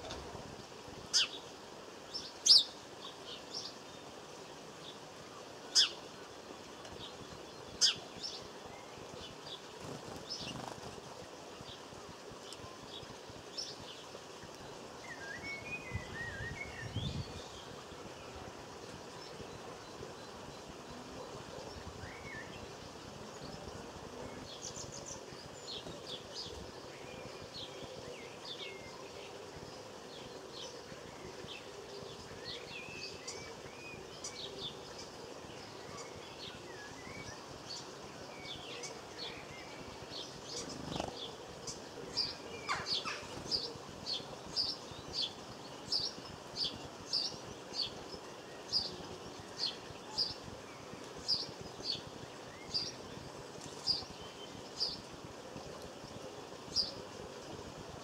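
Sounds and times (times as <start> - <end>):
small birds twittering: 0.0 - 58.0.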